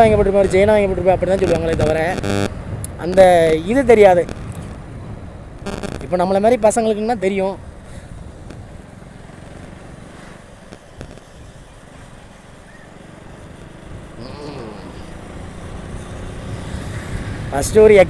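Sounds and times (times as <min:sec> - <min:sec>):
motorcycle engine and road rumble: 0:00.0 - 0:18.0.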